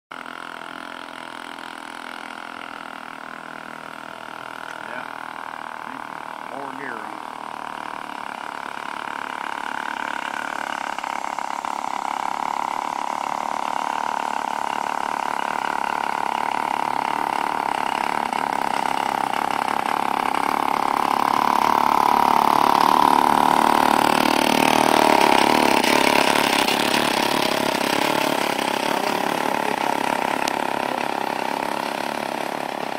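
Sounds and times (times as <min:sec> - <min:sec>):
small motorcycle engine passing: 0:00.2 - 0:32.9.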